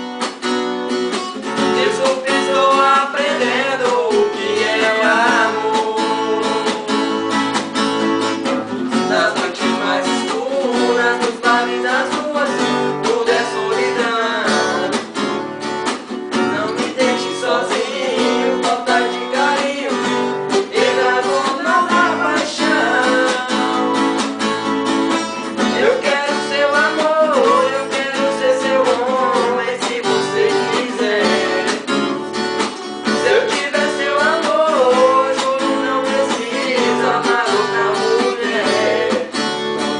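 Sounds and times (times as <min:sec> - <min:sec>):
acoustic guitar solo: 0:00.0 - 0:39.9.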